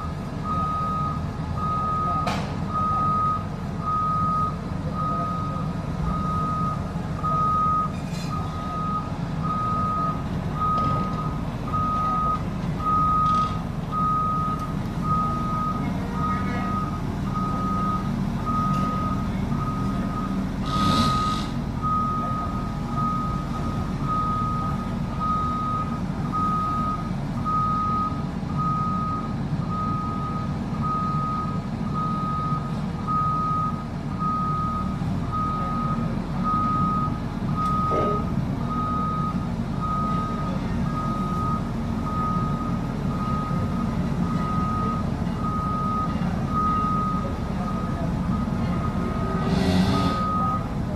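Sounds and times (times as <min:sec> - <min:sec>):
diesel engine running: 0:00.0 - 0:50.9
reversing alarm beeping: 0:00.4 - 0:50.7.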